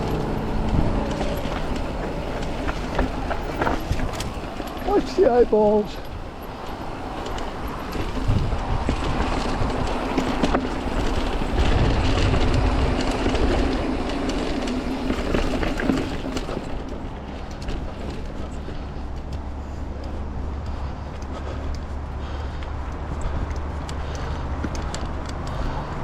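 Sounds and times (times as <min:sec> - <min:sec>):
bike rattling with small knocks: 0:00.0 - 0:26.0
bike tyre noise: 0:00.0 - 0:26.0.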